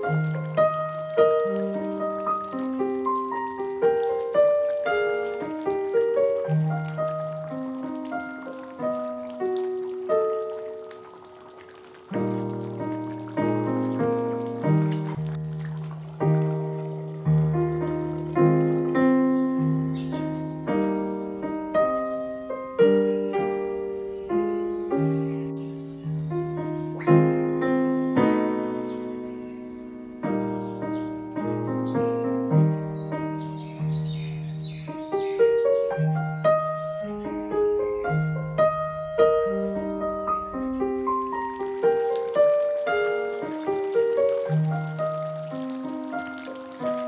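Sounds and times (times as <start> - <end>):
gentle piano music: 0.0 - 47.0.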